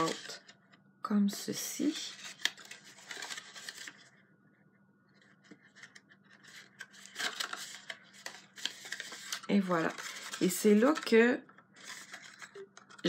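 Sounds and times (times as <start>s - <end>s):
card stock rustling and scraping: 0.0s - 0.6s, 2.1s - 4.2s, 5.1s - 13.0s.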